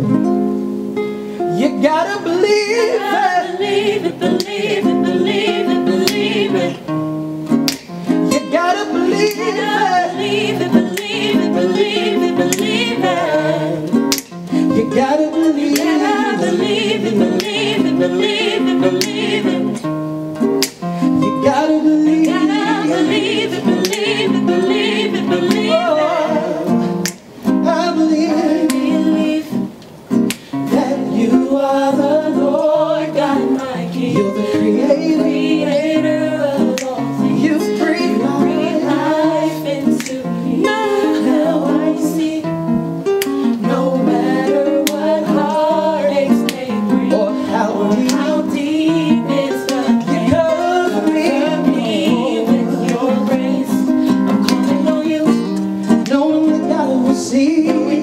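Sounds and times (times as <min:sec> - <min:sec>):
acoustic guitar: 0:00.0 - 0:58.0
gospel group singing: 0:01.4 - 0:58.0.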